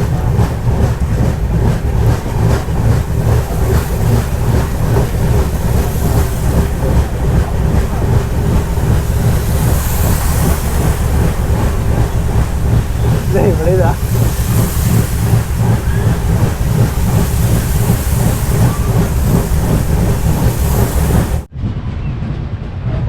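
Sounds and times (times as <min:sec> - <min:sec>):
train rumbling at speed: 0:00.0 - 0:23.0.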